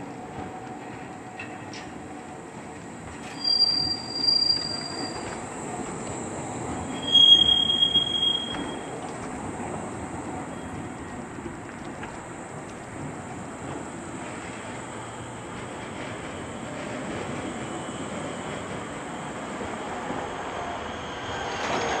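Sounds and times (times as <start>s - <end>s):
rumble of wheels on track: 0.0s - 22.0s
tram wheels squealing on rails: 3.0s - 22.0s.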